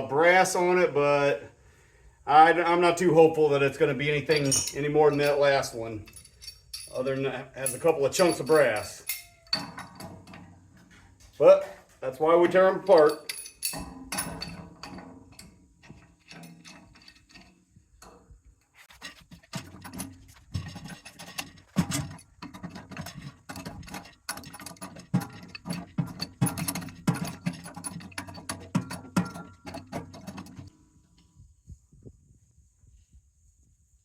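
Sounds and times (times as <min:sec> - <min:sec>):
hand tools clicking and clanking: 0:03.7 - 0:31.3.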